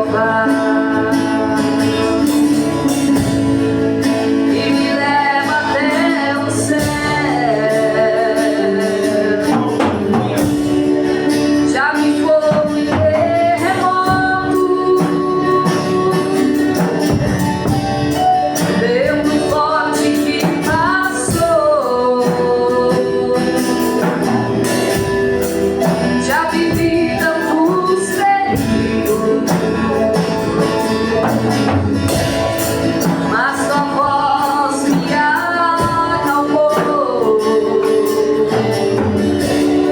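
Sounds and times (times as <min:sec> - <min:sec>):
instrumental backing: 0:00.0 - 0:39.9
woman and man singing: 0:00.0 - 0:39.9.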